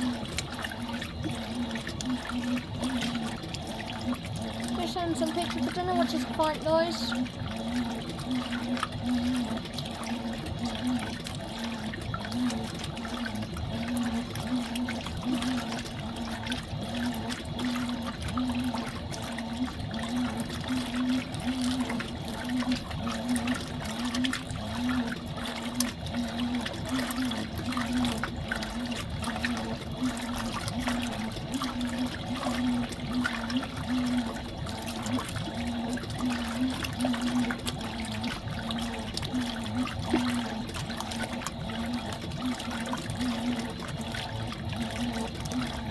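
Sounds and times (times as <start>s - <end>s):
washing machine motor hum: 0.0s - 45.9s
water churning in washing machine: 0.0s - 45.9s.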